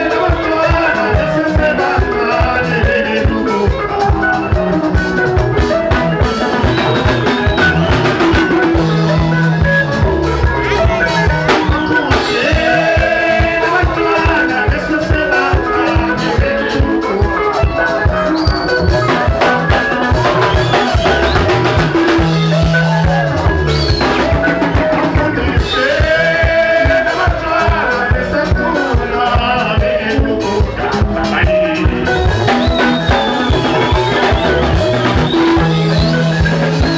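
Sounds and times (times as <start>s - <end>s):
bass guitar: 0.0s - 36.9s
drum kit fast beat: 0.0s - 36.9s
electric lead guitar: 0.0s - 36.9s.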